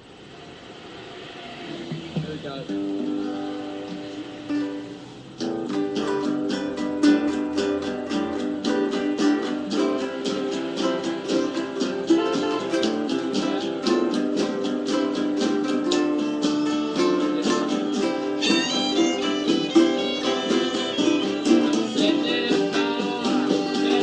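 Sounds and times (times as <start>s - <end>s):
ukulele playing: 1.7s - 24.0s.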